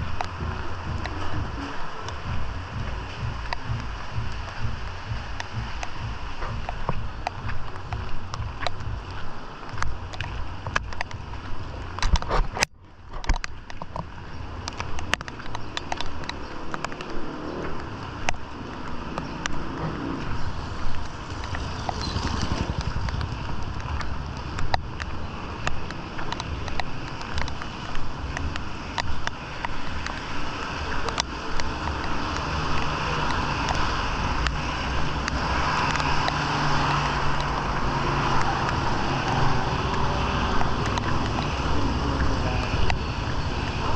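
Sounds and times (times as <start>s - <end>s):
heavy rain hissing: 0.0s - 12.0s, 17.2s - 43.9s
steady engine hum: 0.0s - 43.9s
vehicles on wet street: 0.0s - 43.9s.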